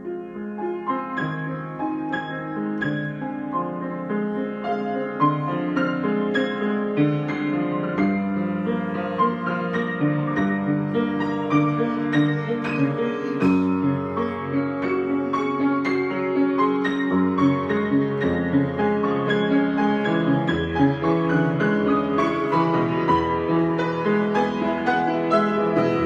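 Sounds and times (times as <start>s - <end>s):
solo piano improvisation: 0.0s - 26.0s.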